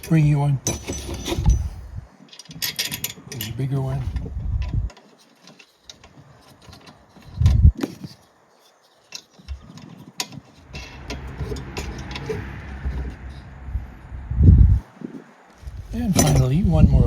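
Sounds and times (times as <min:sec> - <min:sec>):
handling noise: 0:00.0 - 0:16.6.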